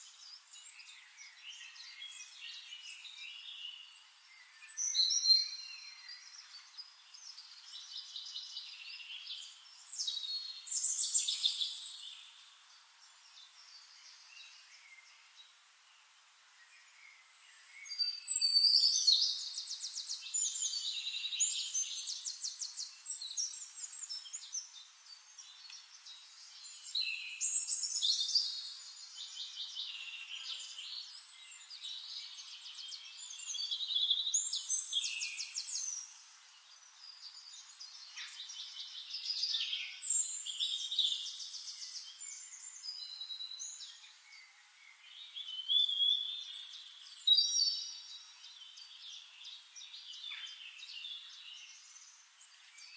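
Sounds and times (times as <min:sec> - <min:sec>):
quiet bird calls: 0:00.0 - 0:52.9
songbird trills and chirps: 0:00.0 - 0:52.9.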